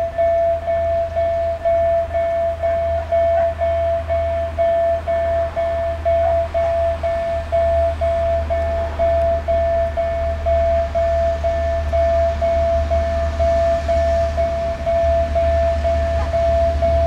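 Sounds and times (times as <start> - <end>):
diesel locomotive engine rumble: 0.0 - 17.0
level crossing warning signal: 0.0 - 17.0.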